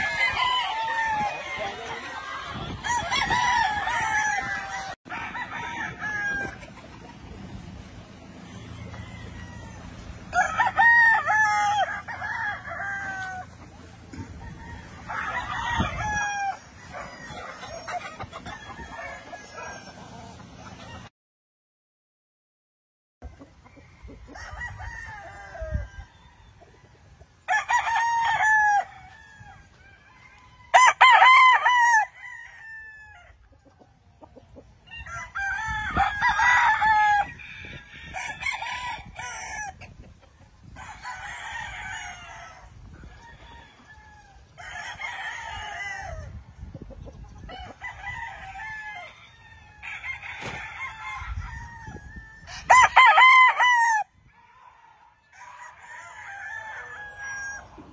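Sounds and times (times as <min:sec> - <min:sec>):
roosters crowing: 0:00.0 - 0:21.1, 0:23.5 - 0:33.7, 0:34.7 - 0:46.6, 0:47.2 - 0:57.9.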